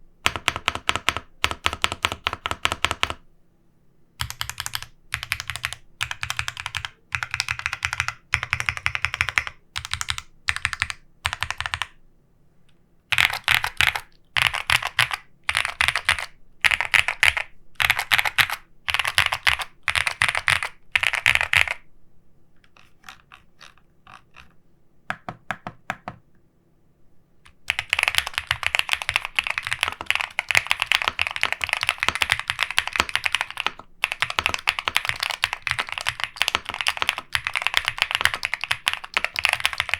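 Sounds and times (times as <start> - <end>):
mechanical keyboard typing: 0.2 - 3.2, 4.2 - 12.0, 13.1 - 21.8, 22.6 - 26.2, 27.5 - 39.9.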